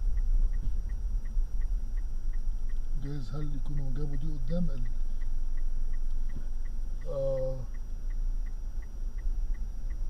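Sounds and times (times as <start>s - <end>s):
car engine and road rumble: 0.0s - 10.0s
faint regular ticking: 0.0s - 10.0s.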